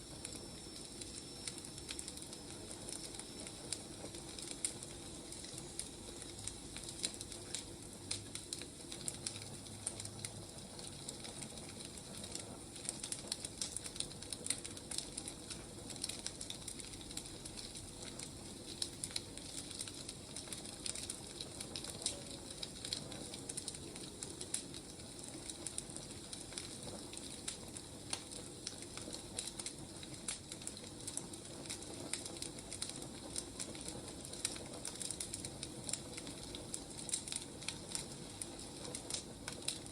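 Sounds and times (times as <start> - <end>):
firewood crackling and popping: 0.0 - 39.9
soft fire hiss: 0.0 - 39.9.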